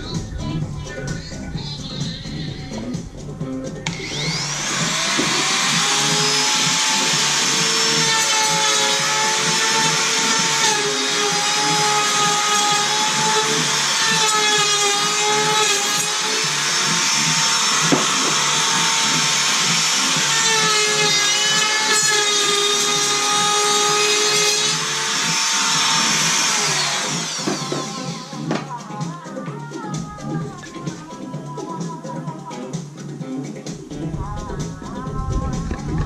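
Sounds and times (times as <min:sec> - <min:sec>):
wood router whining: 0:00.0 - 0:29.0.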